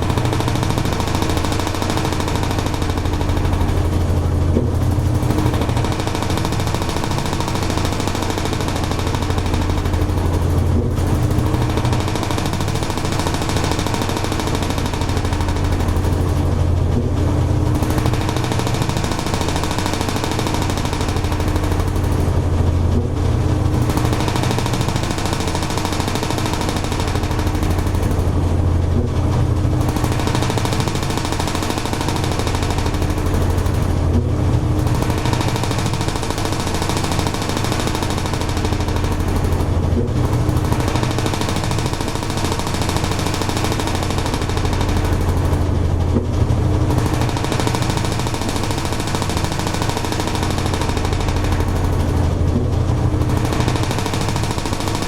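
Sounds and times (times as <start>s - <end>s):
washing machine motor hum: 0.0s - 25.6s, 26.3s - 42.2s, 43.8s - 48.4s, 50.4s - 54.0s
washing machine churning: 0.0s - 55.0s.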